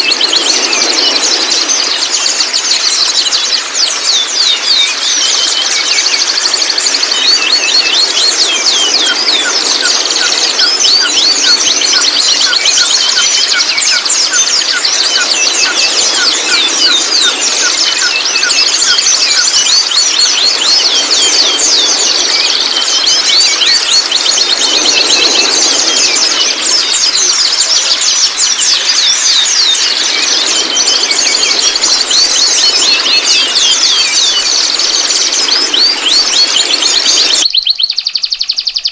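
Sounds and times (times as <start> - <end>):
birds chattering: 0.0 - 38.9.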